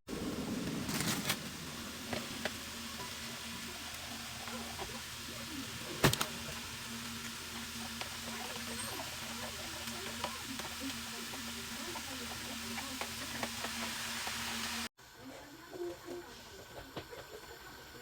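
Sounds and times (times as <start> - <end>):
food sizzling in a pan: 0.2 - 18.0.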